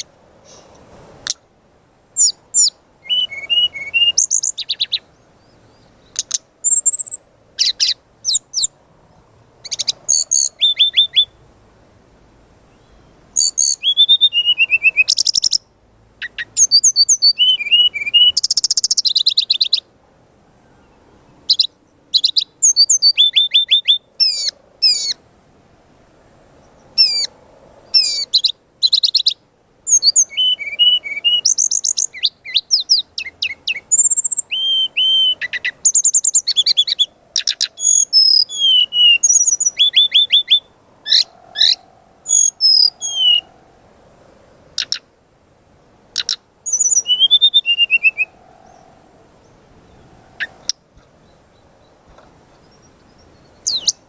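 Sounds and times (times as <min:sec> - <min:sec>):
flycatcher singing: 0:02.2 - 0:08.8, 0:09.6 - 0:11.4, 0:12.7 - 0:19.9, 0:20.8 - 0:25.2, 0:26.6 - 0:43.6, 0:46.1 - 0:54.0.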